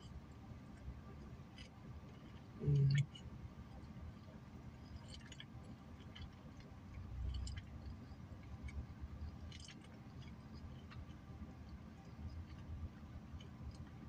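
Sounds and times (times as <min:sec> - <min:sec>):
faint chewing: 0:00.7 - 0:14.0.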